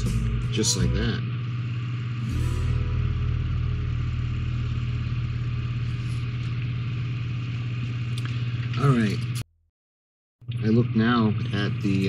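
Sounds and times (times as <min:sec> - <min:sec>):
low mechanical hum: 0:00.0 - 0:09.4, 0:10.4 - 0:12.0.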